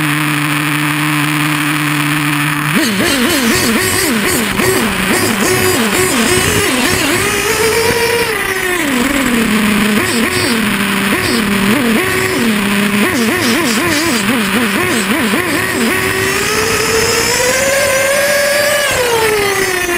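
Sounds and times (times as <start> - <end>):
model snowmobile motor revving: 0.0 - 19.9.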